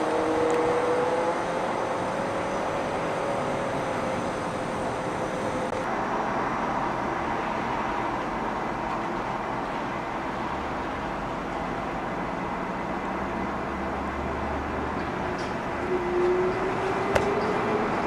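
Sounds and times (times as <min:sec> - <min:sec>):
city traffic noise: 0:00.0 - 0:18.0.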